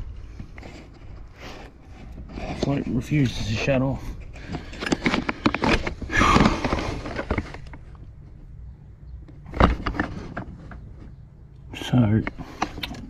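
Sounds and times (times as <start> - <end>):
handling clicks and knocks: 2.2 - 13.0.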